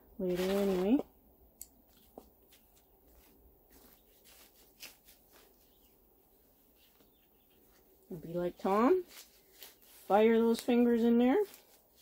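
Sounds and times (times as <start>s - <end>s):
hands working potting soil: 0.1s - 12.0s.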